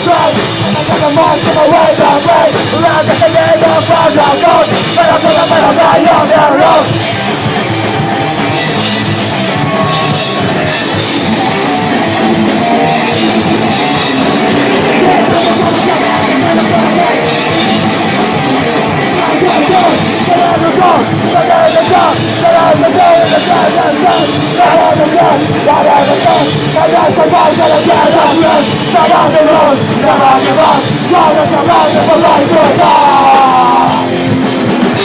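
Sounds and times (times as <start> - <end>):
shouted vocals: 0.0 - 11.0, 12.8 - 34.3
bass: 0.0 - 35.0
distorted guitars: 0.0 - 35.0
pounding drum kit: 0.0 - 35.0.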